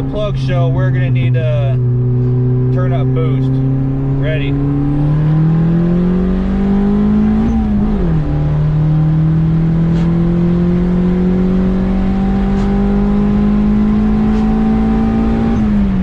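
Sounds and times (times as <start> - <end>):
engine revving at full throttle: 0.0 - 16.0.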